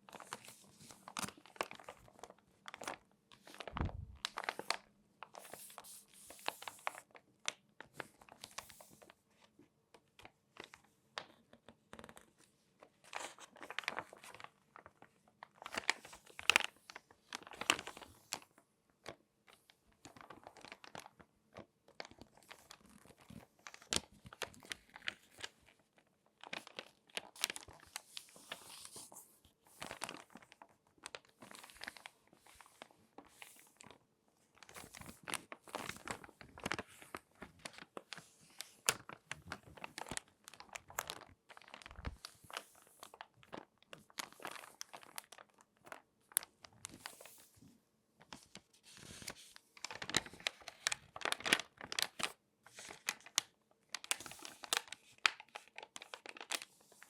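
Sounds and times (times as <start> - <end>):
magazine pages crumpling: 0.0 - 9.2, 10.2 - 47.6, 48.2 - 57.0.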